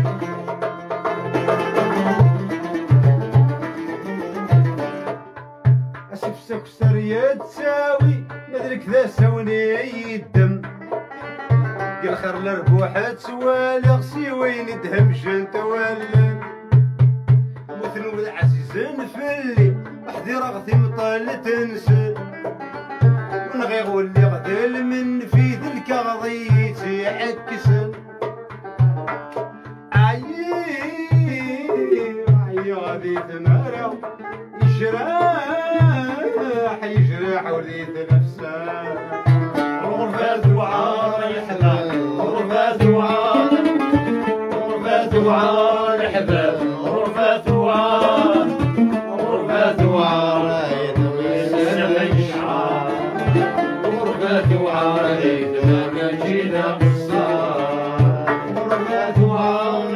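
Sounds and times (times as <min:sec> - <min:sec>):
classical guitar: 0:00.0 - 0:06.3, 0:07.0 - 0:24.7, 0:26.5 - 0:59.9
low drum beat: 0:00.0 - 0:14.3, 0:14.9 - 0:24.7, 0:25.3 - 0:25.7, 0:26.4 - 0:59.9
banjo playing: 0:00.0 - 0:59.9
man singing ornamented melody: 0:06.1 - 0:10.8, 0:12.0 - 0:16.6, 0:17.7 - 0:22.4, 0:23.4 - 0:28.0, 0:29.9 - 0:59.9.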